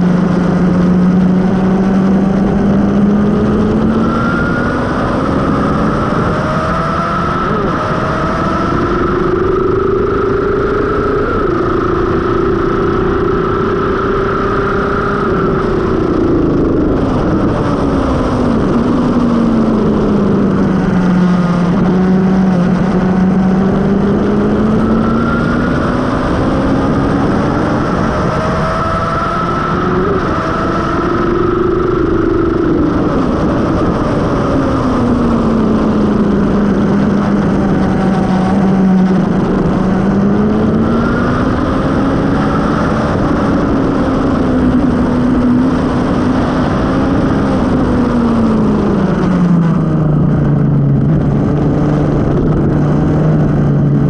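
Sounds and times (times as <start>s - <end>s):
motorcycle engine at speed: 0.0s - 54.0s
steady rushing noise: 0.0s - 54.0s.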